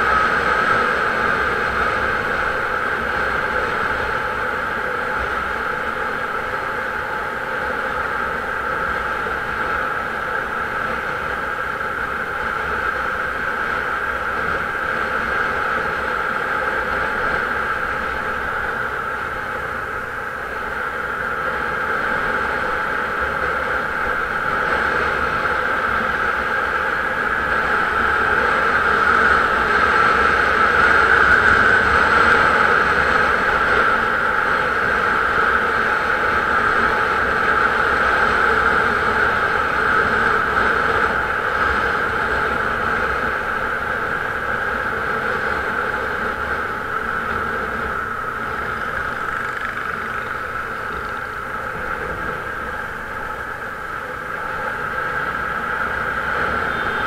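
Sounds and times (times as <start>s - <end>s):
vehicle driving on road: 0.0s - 57.0s.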